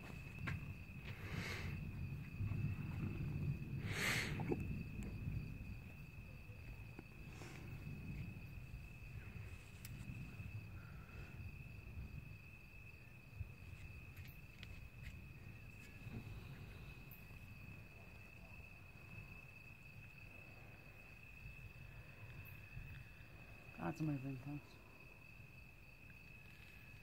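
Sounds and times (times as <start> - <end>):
crickets trilling: 0.0 - 27.0
faint low rumble: 0.0 - 27.0.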